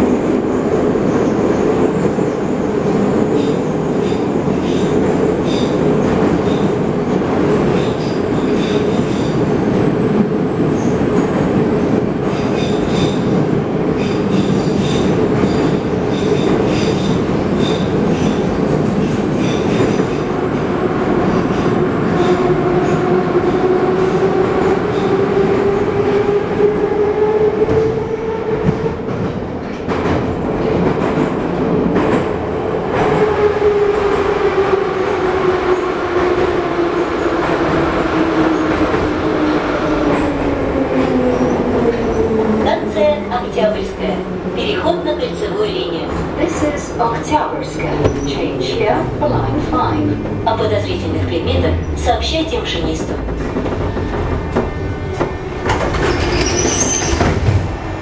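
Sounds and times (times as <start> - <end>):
metro train rumbling in tunnel: 0.0 - 58.0.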